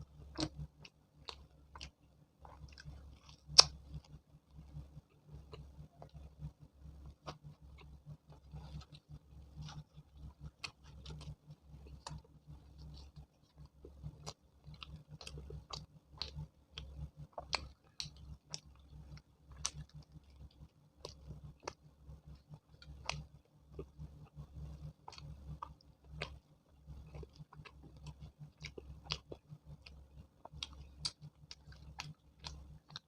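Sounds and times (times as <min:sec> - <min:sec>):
wet chewing with lip smacks: 0:00.0 - 0:33.0.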